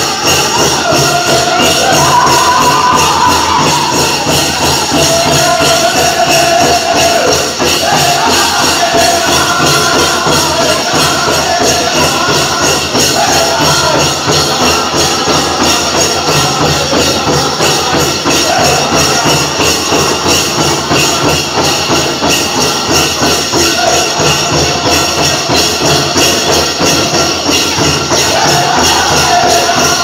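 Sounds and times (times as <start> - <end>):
drum group singing: 0.0 - 30.0
large drum beat: 0.0 - 30.0
leg bells jingling: 0.0 - 30.0.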